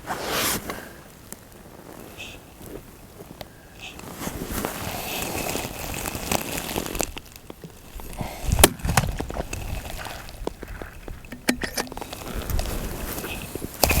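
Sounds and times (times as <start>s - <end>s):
rustling wind-like noise: 0.0s - 14.0s.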